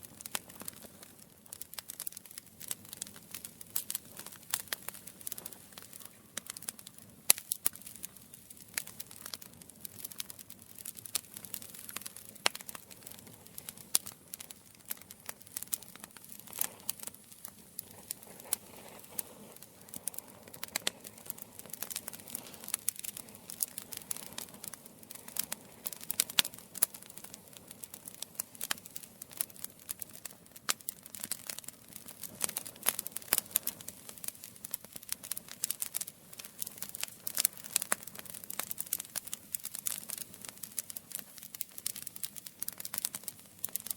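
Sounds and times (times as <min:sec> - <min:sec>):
campfire crackling: 0:00.0 - 0:43.9.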